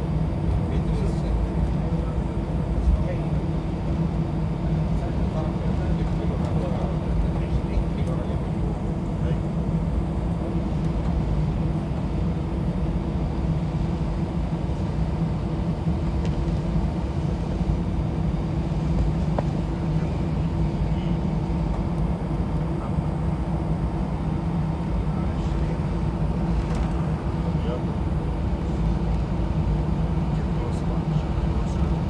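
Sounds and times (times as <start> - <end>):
jet engines idling hum: 0.0 - 32.0.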